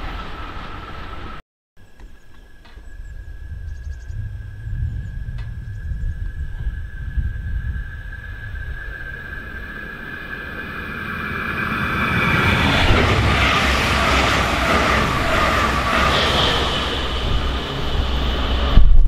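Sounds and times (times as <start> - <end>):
locomotive high whine: 0.0 - 19.0.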